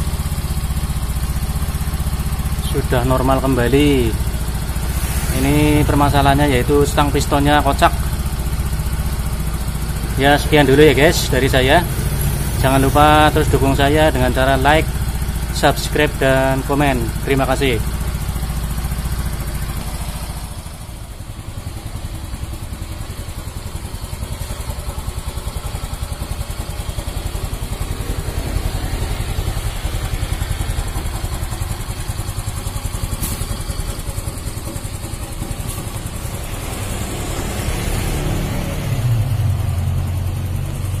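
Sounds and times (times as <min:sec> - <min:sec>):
scooter engine idling: 0:00.0 - 0:41.0.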